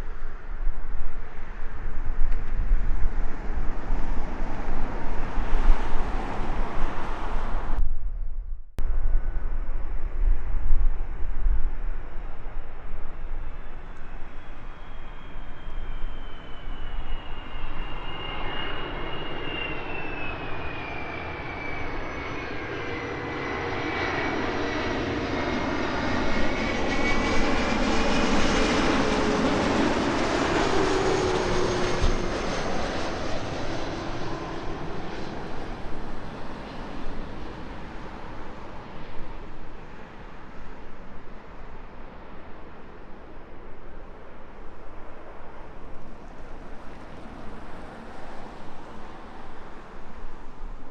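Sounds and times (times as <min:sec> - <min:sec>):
jet airliner passing: 0:00.0 - 0:07.9, 0:08.8 - 0:50.9.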